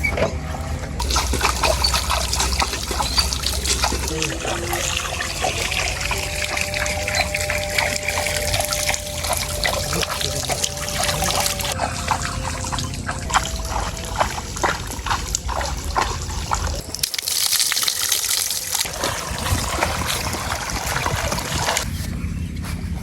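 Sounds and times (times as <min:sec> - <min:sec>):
water sloshing and trickling: 0:00.0 - 0:22.2
water pouring: 0:01.0 - 0:21.9.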